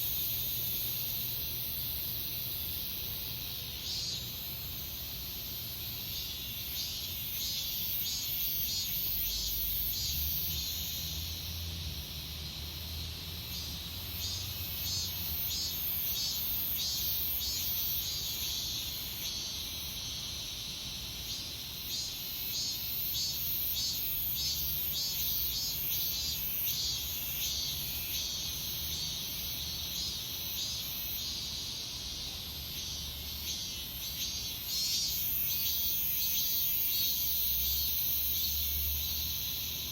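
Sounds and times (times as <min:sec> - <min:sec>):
cicadas buzzing in chorus: 0:00.0 - 0:39.9.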